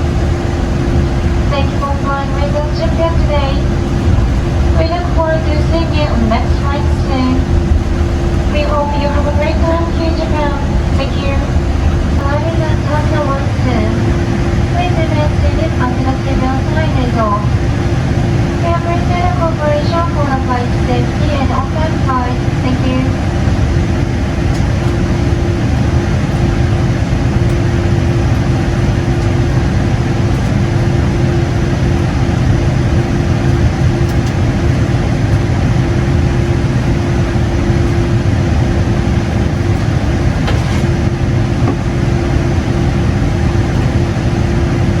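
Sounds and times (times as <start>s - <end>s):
aircraft cabin rumble: 0.0s - 45.0s
steady hum: 0.0s - 45.0s.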